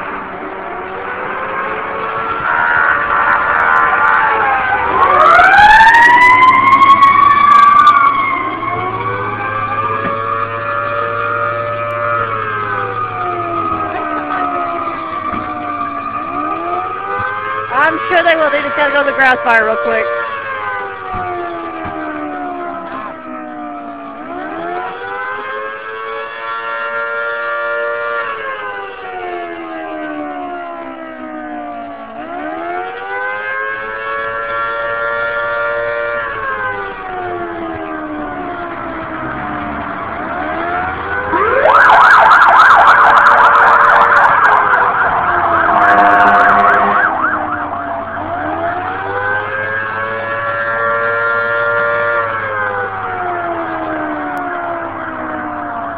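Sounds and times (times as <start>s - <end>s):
fast-changing siren: 0.0s - 55.9s
fire engine siren wailing: 0.0s - 55.9s.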